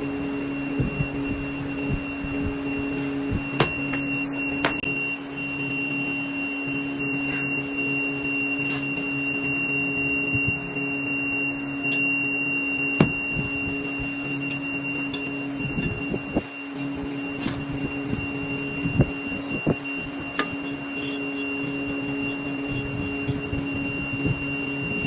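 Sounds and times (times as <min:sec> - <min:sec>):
high whine: 0:00.0 - 0:25.0
machine humming: 0:00.0 - 0:25.0.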